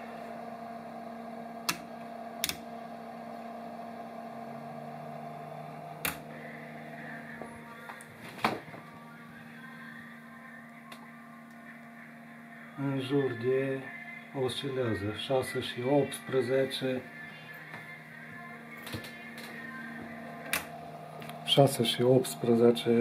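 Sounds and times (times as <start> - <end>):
electronics humming: 0.0 - 23.0
lower hum tone: 0.0 - 23.0.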